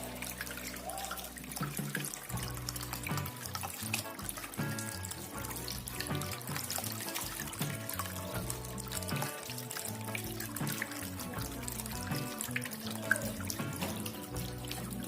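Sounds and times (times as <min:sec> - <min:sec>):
background music: 0:00.0 - 0:15.0
fountain water splashing: 0:00.0 - 0:15.0.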